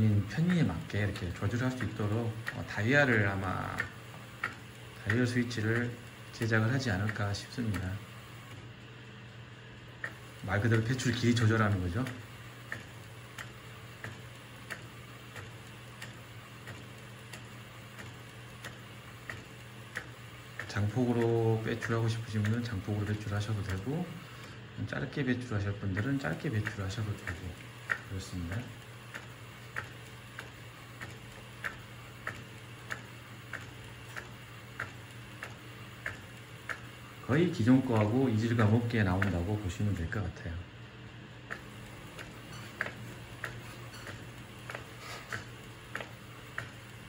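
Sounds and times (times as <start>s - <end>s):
printer mechanism clicking: 0.0s - 8.7s, 10.0s - 40.2s, 41.4s - 47.0s
low printer hum: 0.0s - 47.0s.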